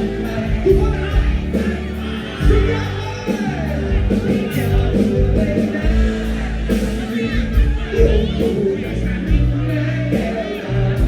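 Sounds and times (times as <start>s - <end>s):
live band playing a song: 0.0s - 11.0s
person singing: 0.0s - 11.0s.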